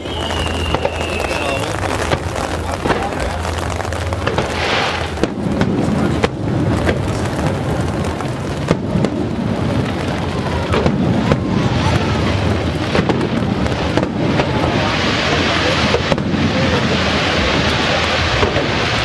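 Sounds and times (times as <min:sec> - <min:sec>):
continuous low rumble: 0:00.0 - 0:19.0
fireworks booming: 0:00.0 - 0:19.0
fireworks crackle: 0:00.0 - 0:19.0.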